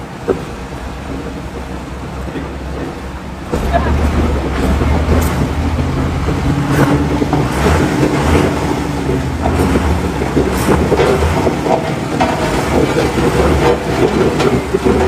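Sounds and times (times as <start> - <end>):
road and body noise: 0.0 - 15.0
truck engine droning: 0.0 - 15.0.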